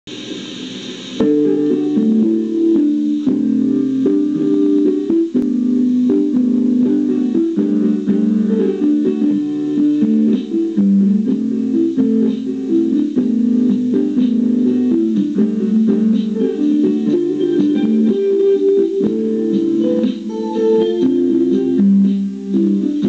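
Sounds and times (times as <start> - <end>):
plucked guitar music: 1.2 - 23.0.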